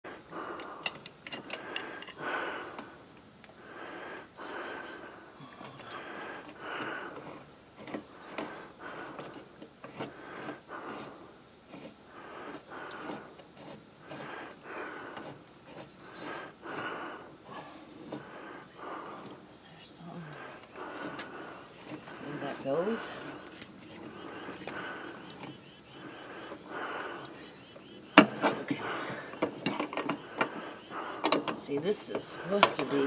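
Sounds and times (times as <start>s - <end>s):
person breathing quickly: 0.1s - 33.0s.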